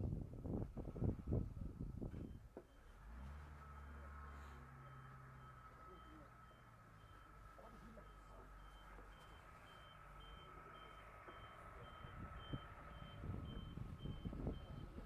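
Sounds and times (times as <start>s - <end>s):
faint reversing beeper: 2.2s - 15.0s.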